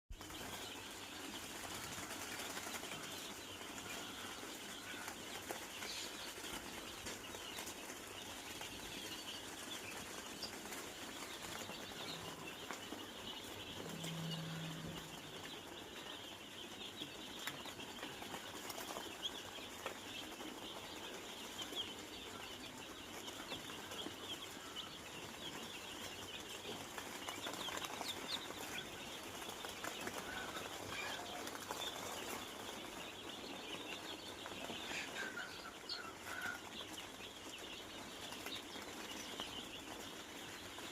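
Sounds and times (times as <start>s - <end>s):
chicks peeping: 0.1s - 40.9s.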